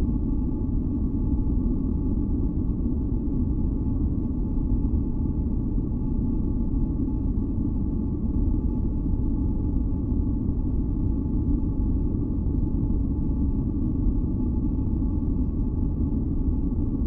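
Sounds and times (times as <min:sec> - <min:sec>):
faint humming tones: 0:00.0 - 0:17.0.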